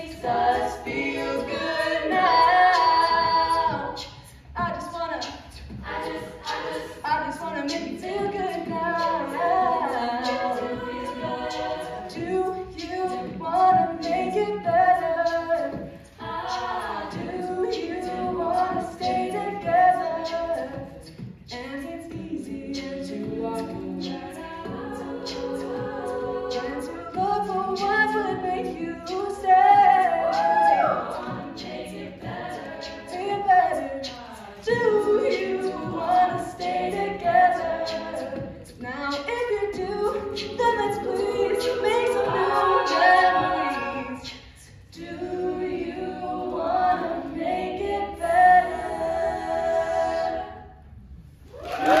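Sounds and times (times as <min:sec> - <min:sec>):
percussive beat: 0:00.0 - 0:44.0
women singing in close harmony: 0:00.0 - 0:50.9.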